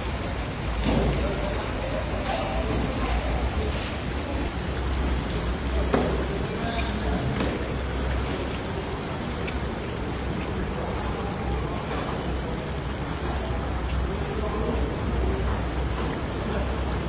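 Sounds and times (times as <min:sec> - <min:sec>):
broth bubbling and sizzling: 0:00.0 - 0:17.0.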